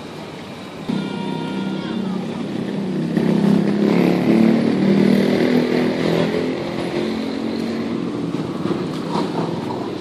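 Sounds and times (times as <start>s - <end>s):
vehicle engine running: 0.8s - 10.0s.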